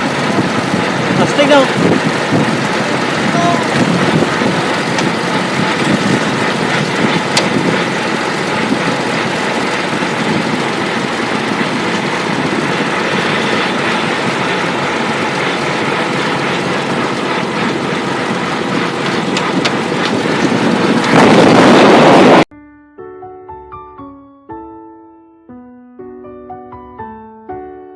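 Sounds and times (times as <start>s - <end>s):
steady engine drone: 0.0s - 22.5s.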